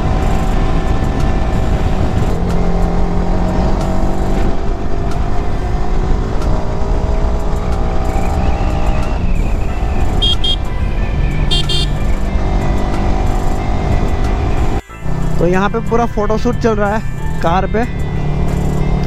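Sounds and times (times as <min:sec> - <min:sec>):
motorcycle engine: 0:00.0 - 0:16.1, 0:16.7 - 0:19.0.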